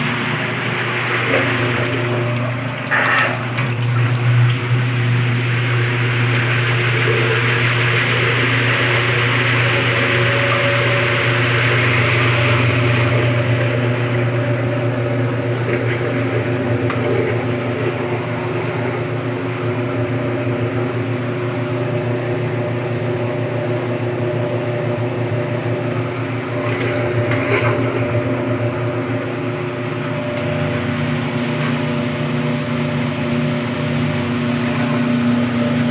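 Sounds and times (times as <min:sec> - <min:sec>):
washing machine motor hum: 0:00.0 - 0:35.9.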